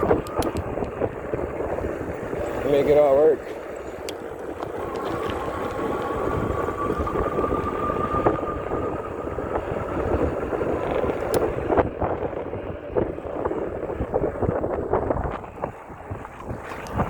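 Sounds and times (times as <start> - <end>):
thin steady whine: 0.0 - 17.0
wind rumbling on microphone: 0.0 - 17.0.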